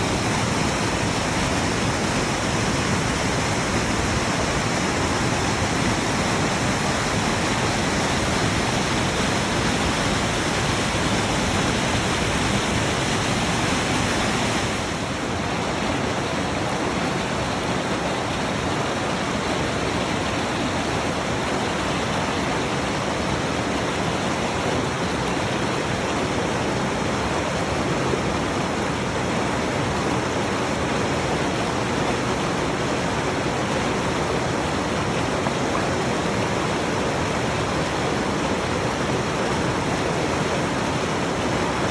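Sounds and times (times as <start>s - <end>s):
rushing creek water: 0.0s - 41.9s.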